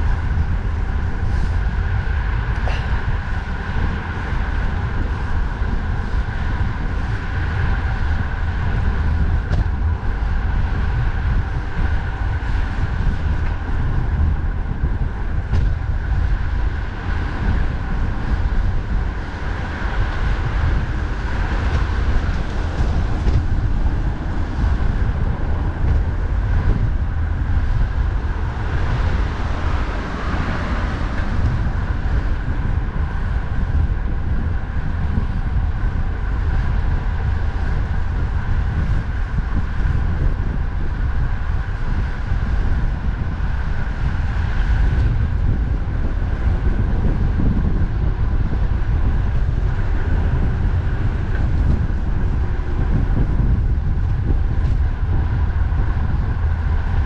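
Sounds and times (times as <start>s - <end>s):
passing road traffic: 0.0s - 57.0s
wind buffeting microphone: 0.0s - 57.0s.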